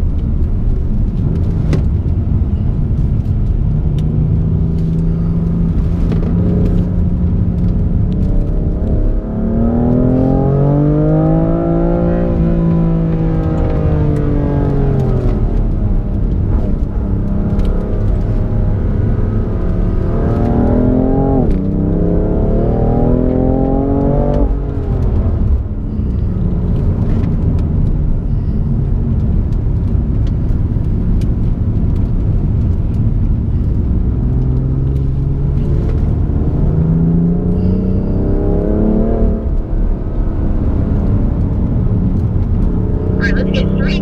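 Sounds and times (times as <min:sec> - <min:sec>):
road noise: 0:00.0 - 0:44.0
car engine accelerating hard: 0:03.1 - 0:28.6, 0:32.0 - 0:44.0.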